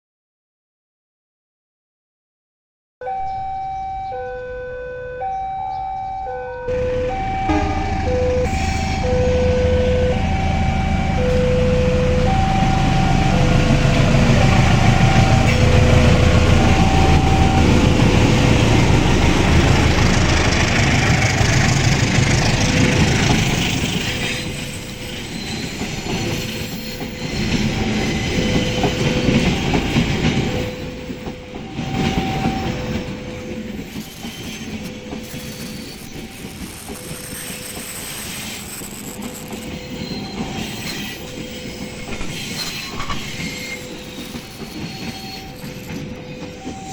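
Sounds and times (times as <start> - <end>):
level-crossing two-tone chime: 3.0 - 20.0, 23.3 - 46.9
train engine rumble: 3.1 - 46.9
train wheel noise: 6.7 - 46.9.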